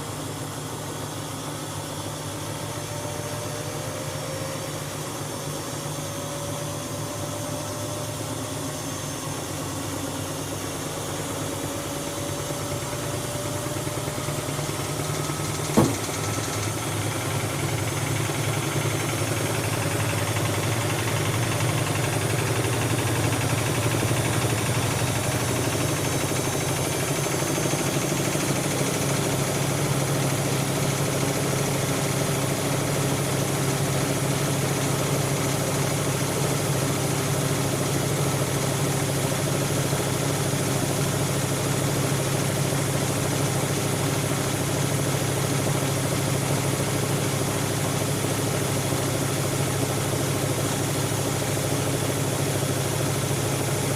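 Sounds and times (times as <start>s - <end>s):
washing machine motor humming: 0.0s - 53.9s.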